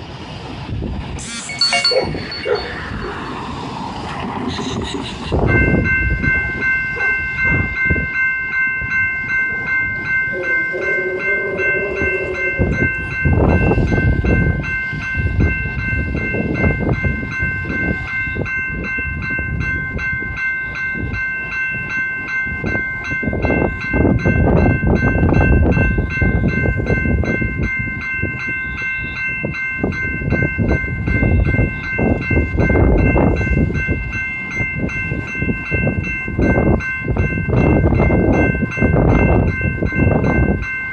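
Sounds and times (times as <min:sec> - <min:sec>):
crossing warning bell: 0:00.0 - 0:40.9
train wheels clacking on rails: 0:00.0 - 0:40.9.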